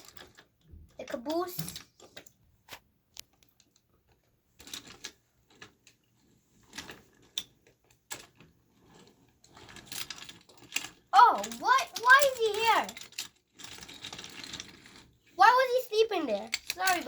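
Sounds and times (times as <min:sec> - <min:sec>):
toy train clattering on wooden track: 0:00.0 - 0:02.3, 0:03.2 - 0:17.0.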